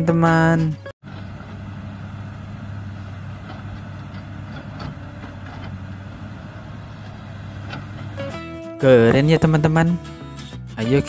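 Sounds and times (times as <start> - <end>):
excavator diesel engine running: 1.0 - 11.0.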